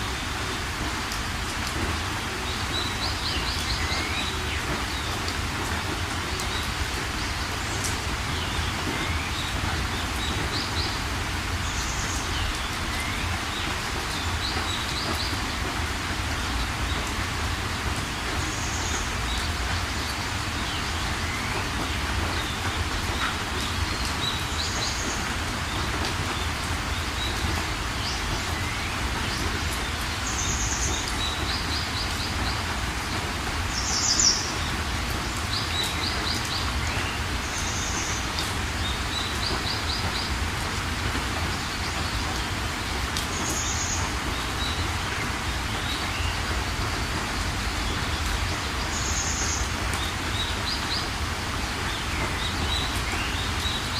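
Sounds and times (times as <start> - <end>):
small birds chirping: 0.0 - 53.9
steady rain: 0.0 - 53.9.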